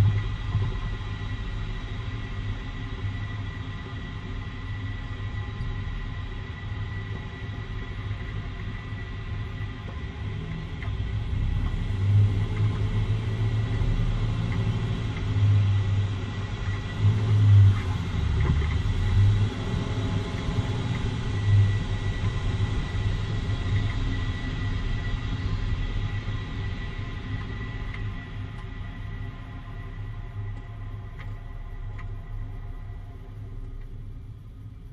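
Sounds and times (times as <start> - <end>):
vehicle driving rumble: 0.0 - 34.9.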